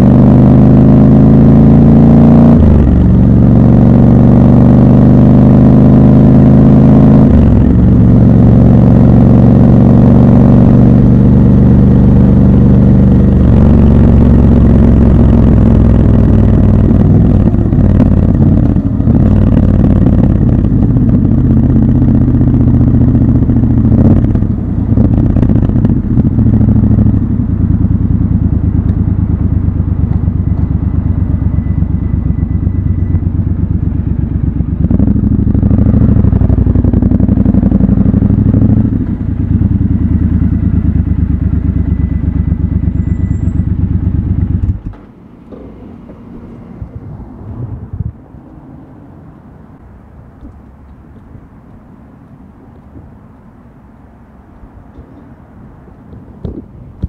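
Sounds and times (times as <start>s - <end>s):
motorcycle engine at low revs: 0.0s - 48.3s, 54.6s - 57.0s.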